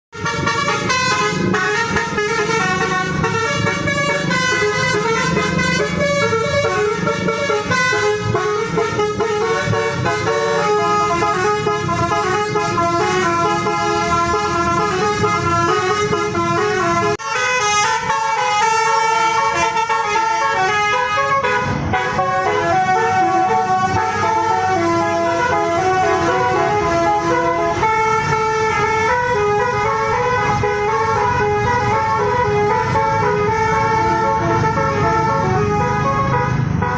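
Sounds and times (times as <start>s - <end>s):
multi-tone bus horn melodies: 0.1s - 36.9s.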